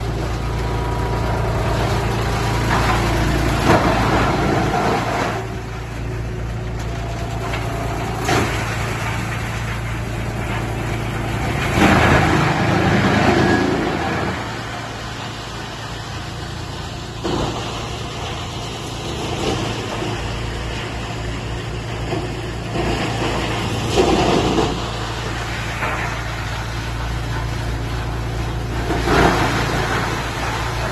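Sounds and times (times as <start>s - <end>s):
wood chipper engine droning: 0.0s - 30.9s.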